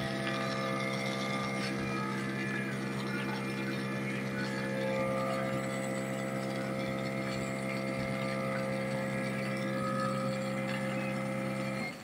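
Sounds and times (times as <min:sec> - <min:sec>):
compressor and pump humming: 0:00.0 - 0:12.0.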